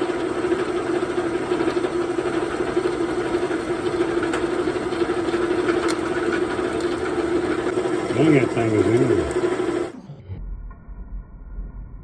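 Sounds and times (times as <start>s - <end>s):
drill press humming: 0.0s - 10.0s.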